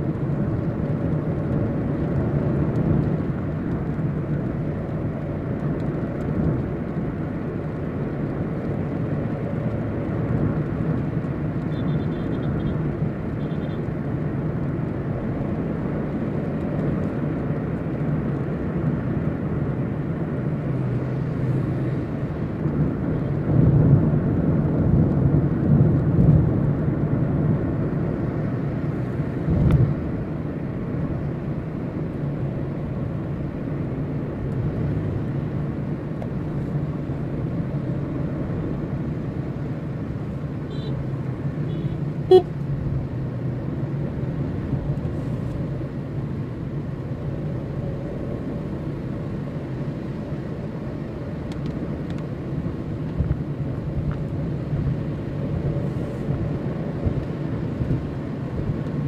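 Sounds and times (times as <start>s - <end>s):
car cabin road noise: 0.0s - 59.0s.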